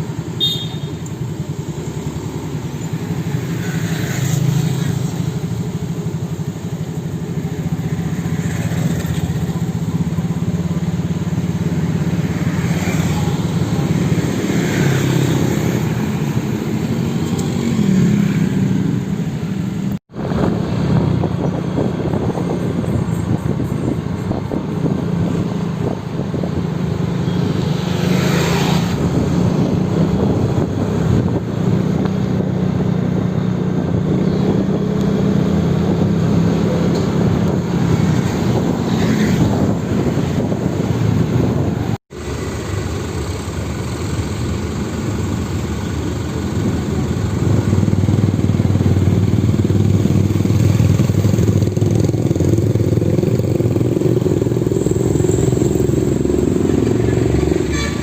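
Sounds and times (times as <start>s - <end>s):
heavy truck diesel engines: 0.0s - 58.0s.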